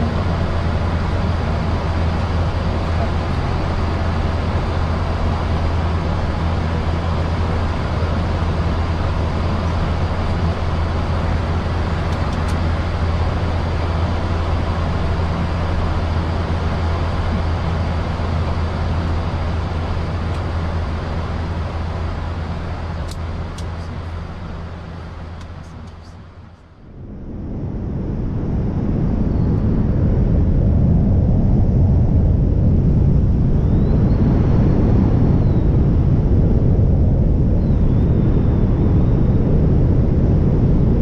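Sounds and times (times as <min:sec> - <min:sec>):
cockpit low hum: 0:00.0 - 0:41.0.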